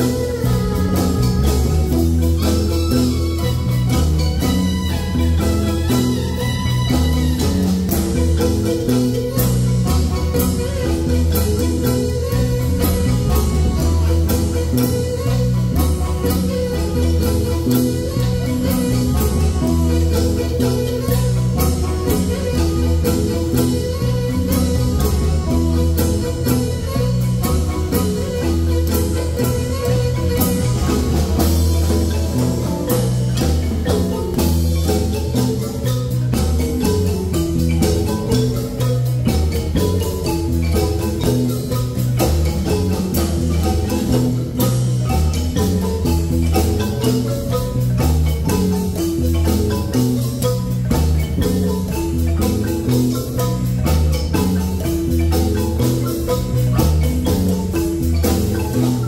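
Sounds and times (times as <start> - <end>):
marimba playing: 0.0 - 59.0.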